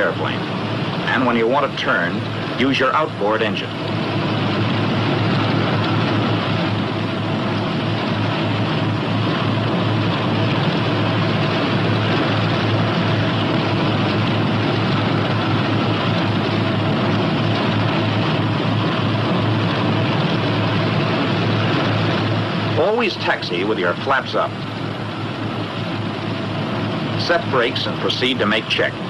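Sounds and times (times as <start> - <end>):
radial aircraft engines droning: 0.0 - 29.0.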